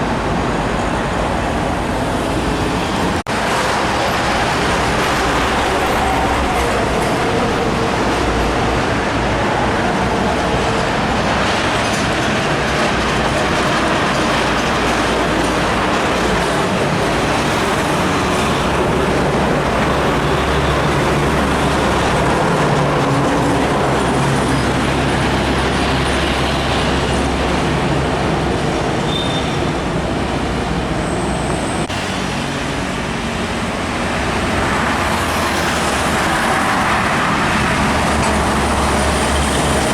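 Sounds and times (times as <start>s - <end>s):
heavy trucks passing: 0.0s - 39.9s.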